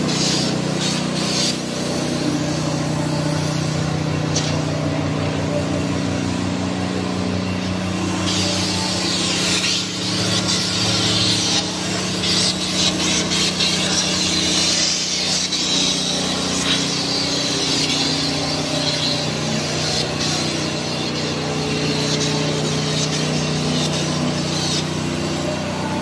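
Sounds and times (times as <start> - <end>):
low machine hum: 0.0 - 26.0
paint spray gun hissing: 0.0 - 26.0.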